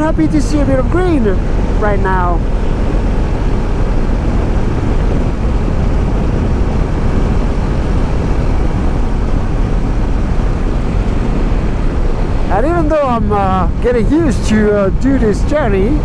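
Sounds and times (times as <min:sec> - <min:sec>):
motorcycle engine rumble: 0:00.0 - 0:16.0
road noise: 0:00.0 - 0:16.0
wind rush: 0:00.0 - 0:16.0.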